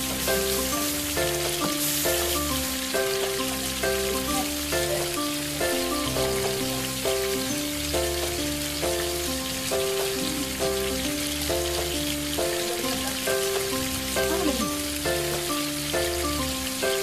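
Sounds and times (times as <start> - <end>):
instrumental background music: 0.0 - 17.0
onions sizzling in a pan: 0.0 - 17.0.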